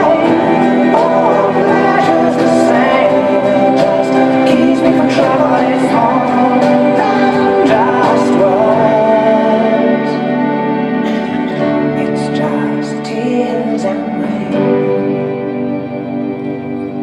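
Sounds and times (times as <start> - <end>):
slow song with singing: 0.0 - 17.0.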